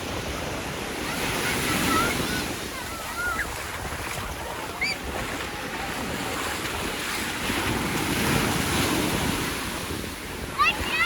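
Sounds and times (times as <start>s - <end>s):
sea waves breaking on beach: 0.0s - 11.0s
wind on microphone: 0.0s - 11.0s.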